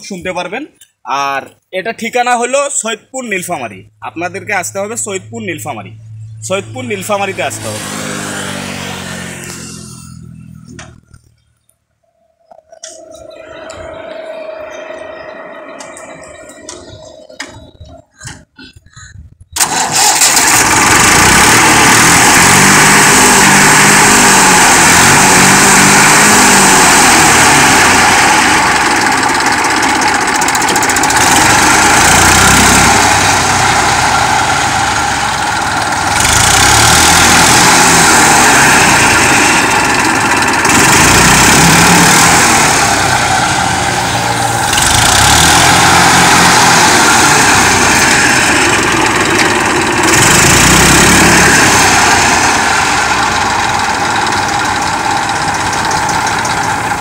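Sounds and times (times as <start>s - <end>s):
diesel tractor engine revving: 3.6s - 11.6s, 12.7s - 18.7s, 19.5s - 57.0s.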